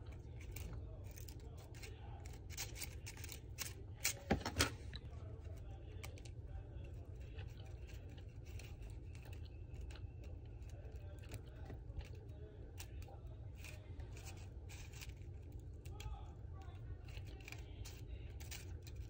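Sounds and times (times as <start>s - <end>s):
plastic rubbing: 0.0s - 19.0s.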